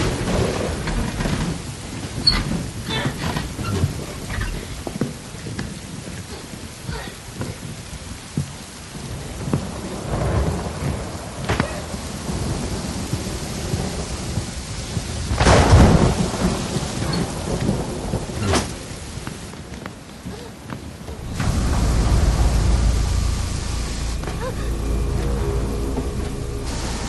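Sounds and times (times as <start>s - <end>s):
thunder cracks: 0.0s - 4.8s, 7.7s - 19.2s, 21.0s - 27.0s
heavy rain on pavement: 0.0s - 27.0s.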